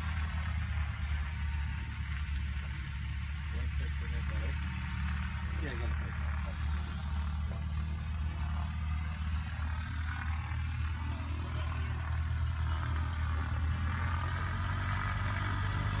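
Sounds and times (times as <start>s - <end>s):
engine running at low speed: 0.0s - 16.0s.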